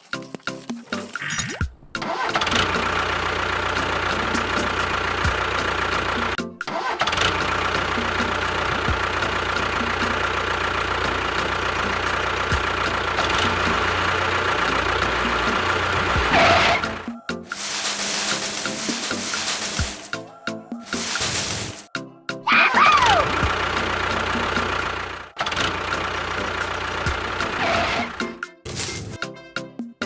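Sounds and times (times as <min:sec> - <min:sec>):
engine running: 0:02.4 - 0:06.4, 0:07.0 - 0:20.2, 0:20.8 - 0:21.9, 0:23.2 - 0:29.2.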